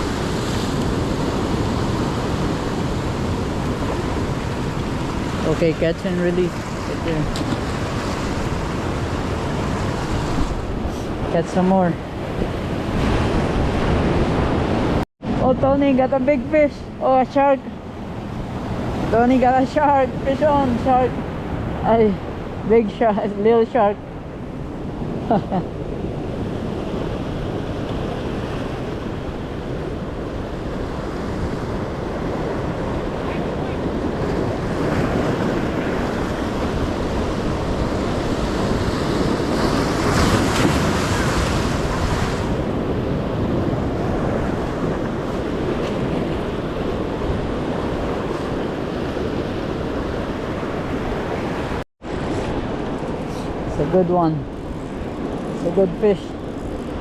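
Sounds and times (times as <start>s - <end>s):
ocean surf washing in: 0.0s - 57.0s
wind buffeting microphone: 0.0s - 57.0s.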